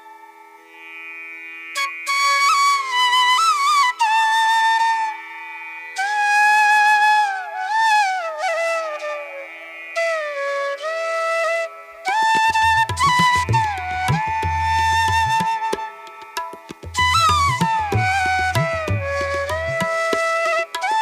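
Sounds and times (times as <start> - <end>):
bamboo flute melody: 1.8 - 21.0.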